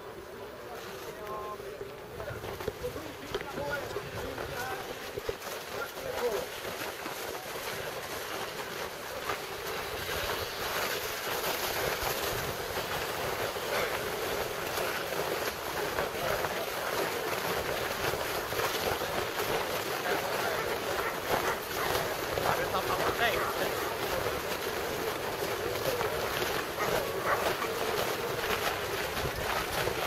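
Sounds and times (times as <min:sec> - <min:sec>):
footsteps crunching on snow: 0:00.6 - 0:30.0.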